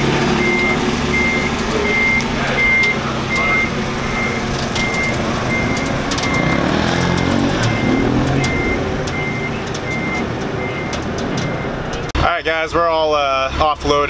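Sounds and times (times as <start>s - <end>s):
forklift warning beeper: 0.0s - 12.1s
forklift engine running: 0.0s - 14.0s.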